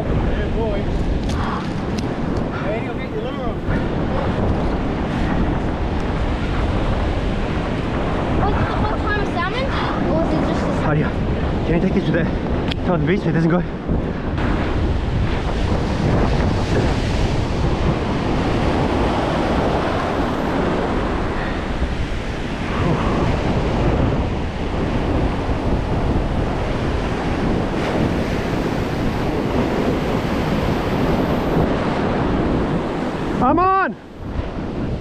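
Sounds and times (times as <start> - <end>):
ocean surf on beach: 0.0 - 35.0
wind buffeting microphone: 0.0 - 35.0.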